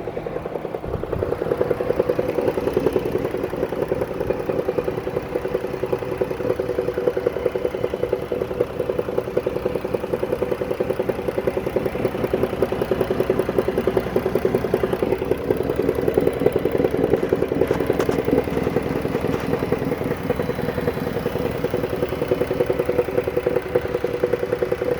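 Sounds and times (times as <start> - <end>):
engine idling with metallic clatter: 0.0 - 24.9.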